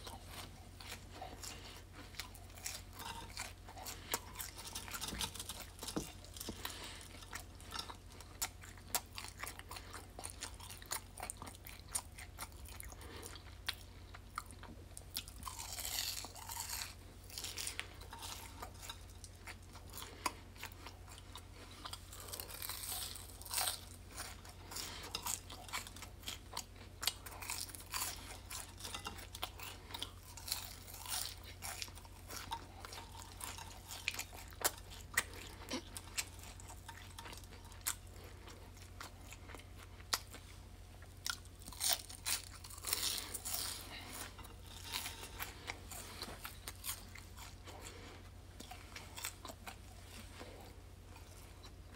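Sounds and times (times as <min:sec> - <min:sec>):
chewing and crunching fries: 0:00.0 - 0:51.9
steady low hum: 0:00.0 - 0:51.9.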